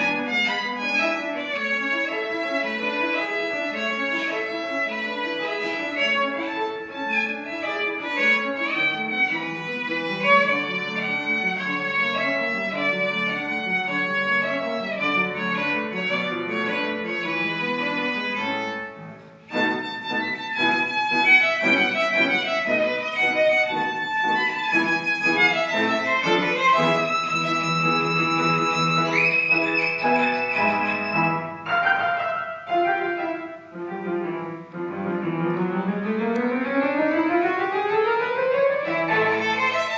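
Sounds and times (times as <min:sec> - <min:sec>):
piano accompaniment: 0:00.0 - 0:39.9
solo violin: 0:00.0 - 0:39.9.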